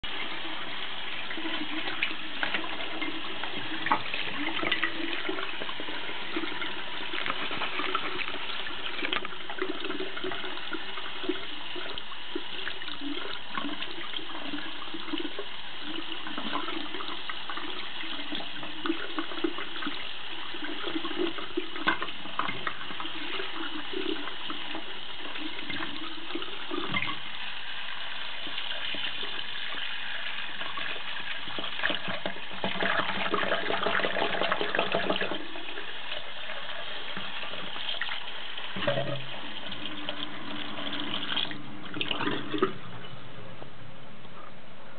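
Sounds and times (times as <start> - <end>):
tap water running and splashing: 0.0 - 43.7.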